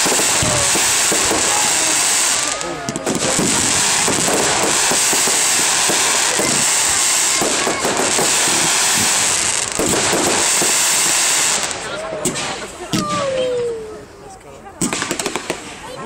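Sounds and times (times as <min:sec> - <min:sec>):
fireworks bangs and crackling: 0:00.0 - 0:13.7, 0:14.8 - 0:16.0.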